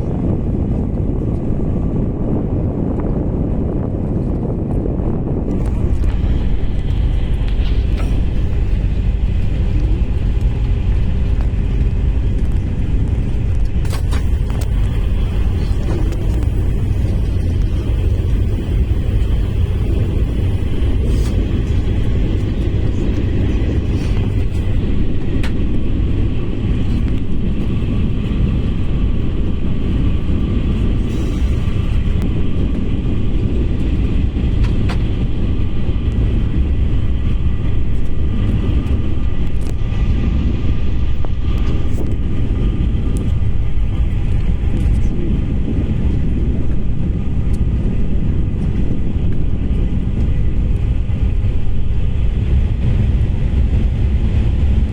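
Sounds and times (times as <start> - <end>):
high-speed train rumbling: 0.0 - 54.9.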